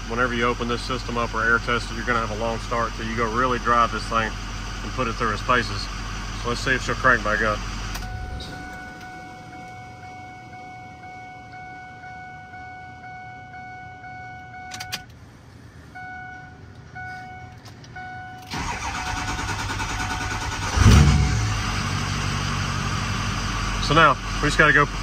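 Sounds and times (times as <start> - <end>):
diesel engine cranking: 0.0 - 11.8, 16.6 - 25.0
diesel engine idling: 0.0 - 25.0.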